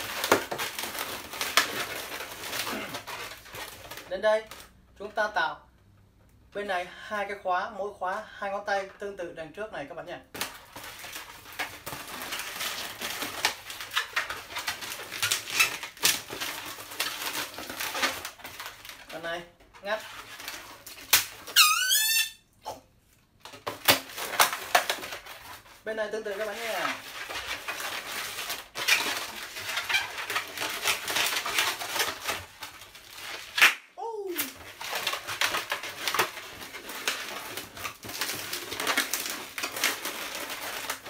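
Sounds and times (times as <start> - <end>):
balloons squeaking and rubbing: 0.0 - 4.2, 11.0 - 22.8, 23.9 - 41.0.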